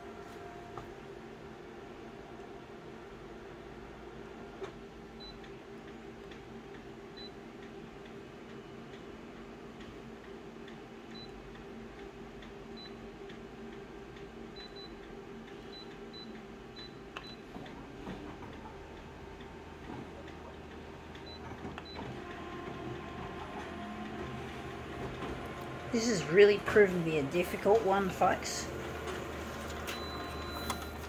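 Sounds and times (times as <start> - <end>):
copier humming: 0.0 - 31.0.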